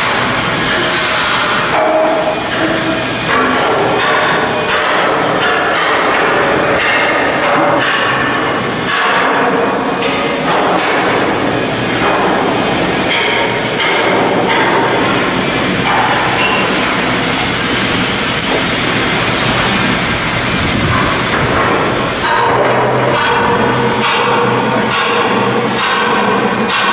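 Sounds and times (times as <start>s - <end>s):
heavy machinery running: 0.0s - 26.9s.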